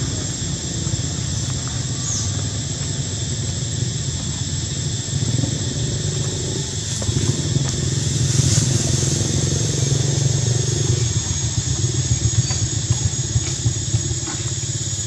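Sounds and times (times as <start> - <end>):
high-pitched whine: 0.0 - 15.0
low engine rumble: 0.0 - 15.0.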